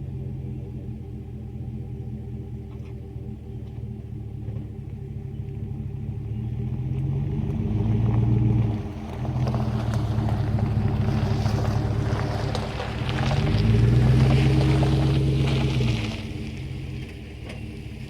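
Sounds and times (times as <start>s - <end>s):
car exhaust engine tone: 0.0s - 18.0s.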